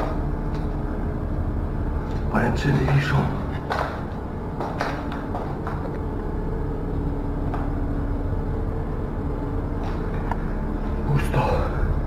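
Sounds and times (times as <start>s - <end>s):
faint hum: 0.0s - 12.0s
low mechanical rumble: 0.0s - 12.0s.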